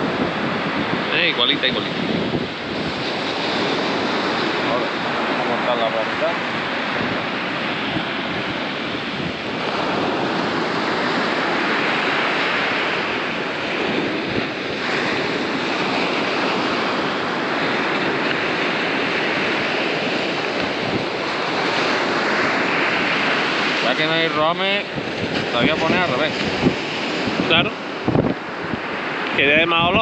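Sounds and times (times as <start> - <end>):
waves breaking on a beach: 0.0 - 30.0
wind buffeting the microphone: 0.0 - 30.0.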